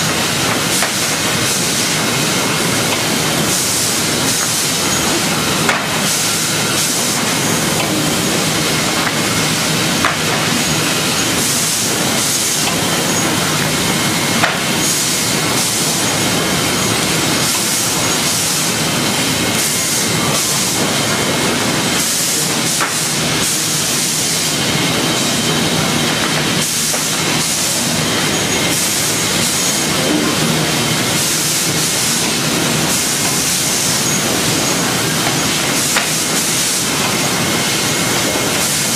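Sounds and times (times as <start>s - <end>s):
sawmill machinery hiss and clatter: 0.0s - 38.9s.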